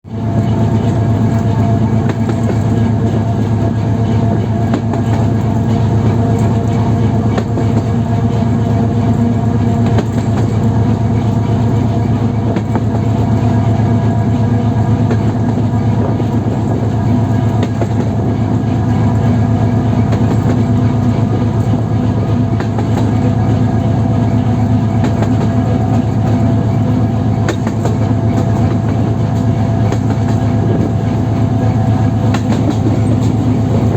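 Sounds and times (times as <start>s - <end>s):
diesel engine drone: 0.1s - 33.9s.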